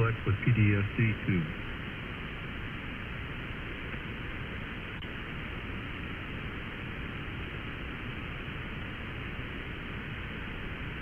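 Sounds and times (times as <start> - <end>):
radio receiver static hiss: 0.0 - 11.0.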